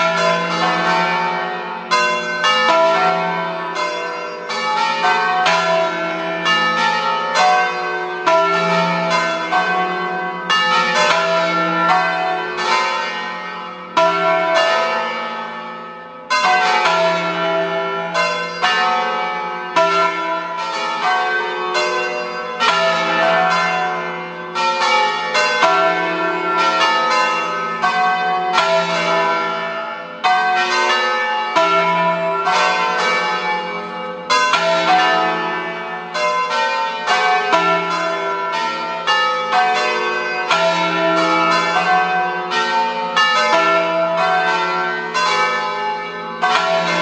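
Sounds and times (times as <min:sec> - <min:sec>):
church bells pealing: 0:00.0 - 0:47.0.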